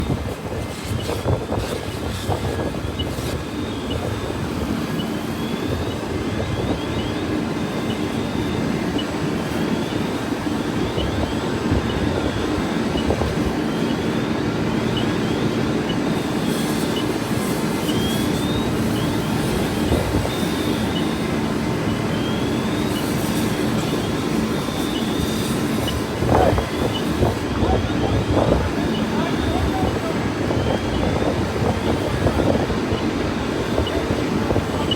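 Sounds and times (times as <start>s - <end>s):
large engine running: 0.0s - 34.9s.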